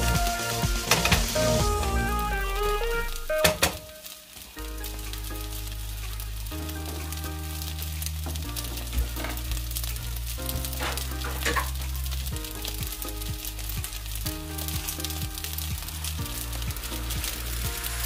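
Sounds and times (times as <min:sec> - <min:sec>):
background music with bass line: 0:00.0 - 0:04.0, 0:04.6 - 0:18.0
rice sizzling in a skillet: 0:02.8 - 0:18.0.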